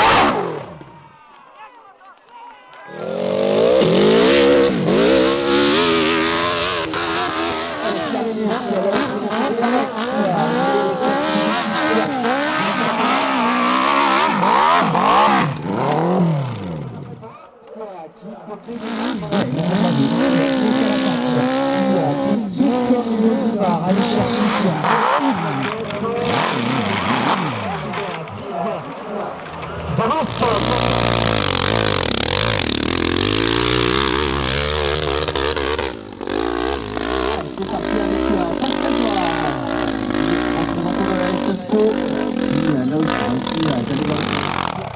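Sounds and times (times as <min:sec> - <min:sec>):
motorcycle engine revving: 0:00.0 - 0:00.9, 0:03.0 - 0:17.2, 0:18.7 - 0:28.8, 0:30.0 - 0:44.9.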